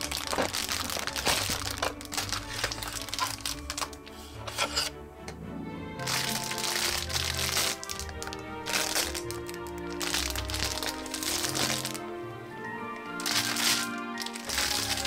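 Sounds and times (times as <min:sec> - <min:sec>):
plastic bag crinkling: 0:00.0 - 0:04.1, 0:06.0 - 0:12.1, 0:12.9 - 0:15.0
background music: 0:00.0 - 0:15.0.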